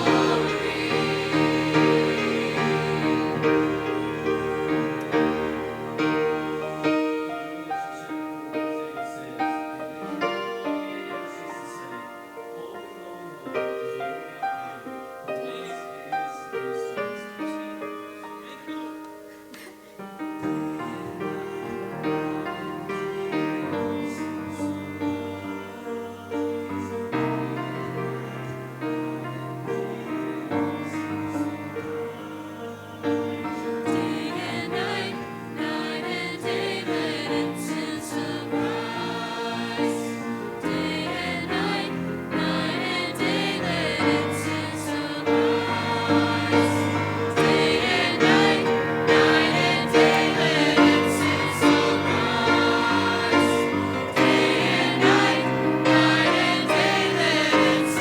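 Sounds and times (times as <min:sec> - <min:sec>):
sustained accompaniment: 0:00.0 - 0:15.6, 0:20.2 - 0:58.0
choir singing gospel song: 0:00.0 - 0:58.0.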